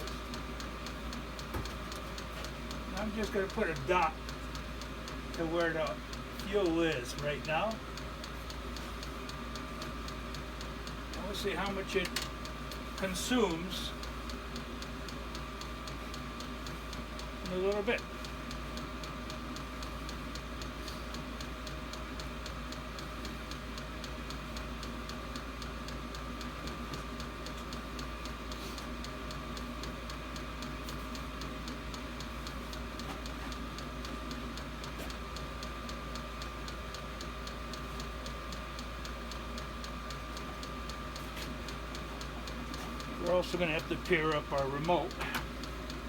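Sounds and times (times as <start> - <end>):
diesel heater whirring: 0.0 - 46.0
fuel pump ticking: 0.0 - 46.0.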